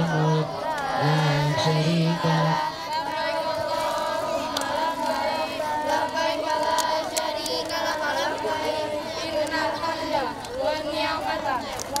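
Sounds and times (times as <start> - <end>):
children chanting: 0.0 - 12.0.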